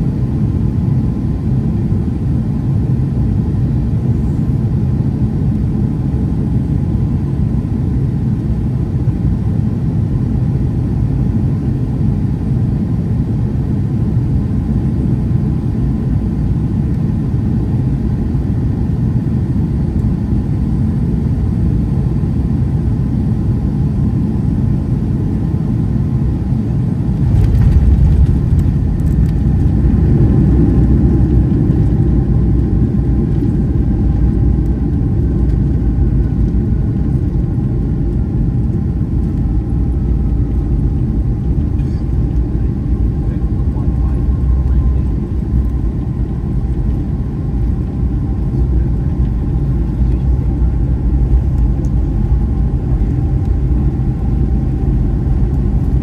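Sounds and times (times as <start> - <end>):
aircraft cabin rumble: 0.0 - 56.0
faint engine whine: 0.0 - 56.0.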